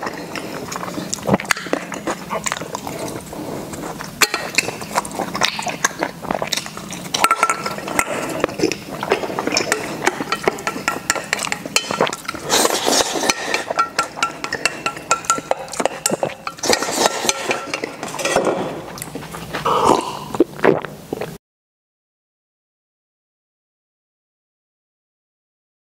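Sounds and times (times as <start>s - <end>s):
eating mouth sounds: 0.0s - 21.4s.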